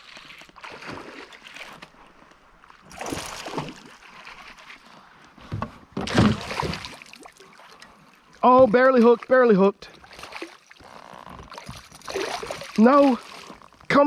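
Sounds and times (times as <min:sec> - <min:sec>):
water splashing beside kayak: 0:00.0 - 0:14.0.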